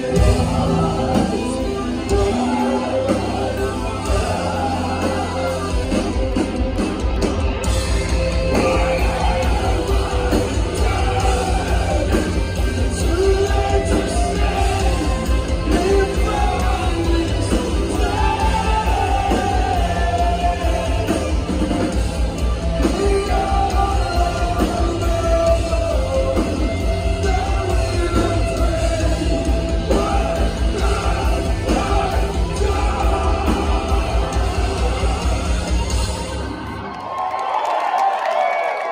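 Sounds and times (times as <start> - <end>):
sung and shouted vocals: 0.0 - 37.2
live rock band: 0.0 - 38.9
fast drumbeat: 4.0 - 36.3.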